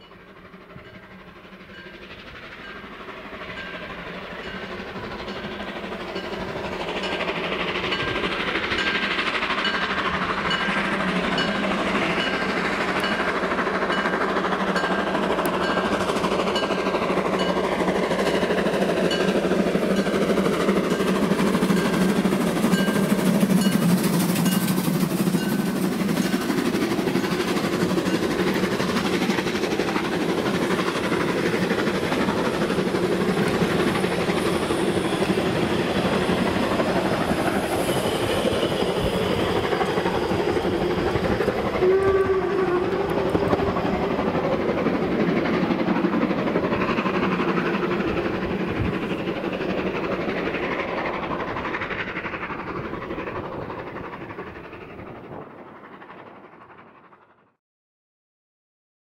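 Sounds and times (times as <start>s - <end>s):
train rumbling on rails: 0.0s - 57.6s.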